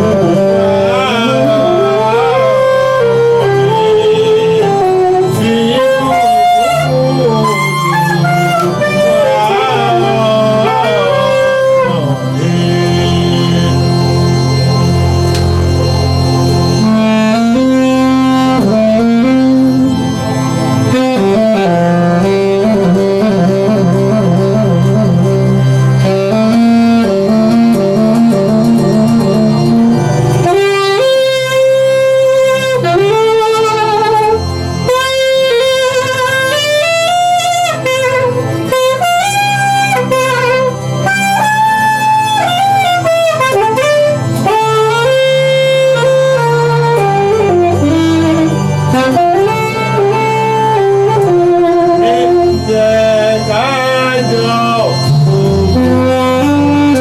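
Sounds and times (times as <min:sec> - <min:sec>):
horn-like sliding lead melody: 0:00.0 - 0:57.0
repeating bass line: 0:00.0 - 0:57.0.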